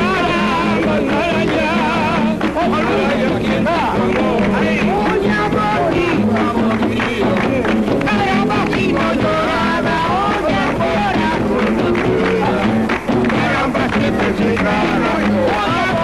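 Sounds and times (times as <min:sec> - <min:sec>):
lively latin american music: 0:00.0 - 0:16.0.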